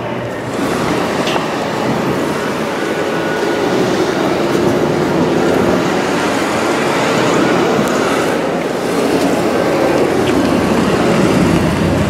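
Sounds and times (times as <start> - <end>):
aircraft engines rumbling: 0.0 - 12.0.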